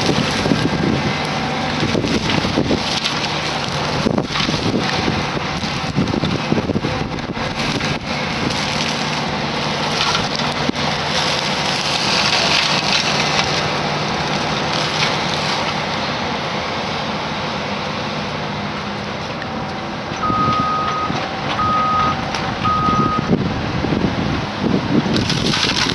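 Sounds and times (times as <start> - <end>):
brush mower shredding trees: 0.0 - 25.9
excavator engine under load: 0.0 - 25.9.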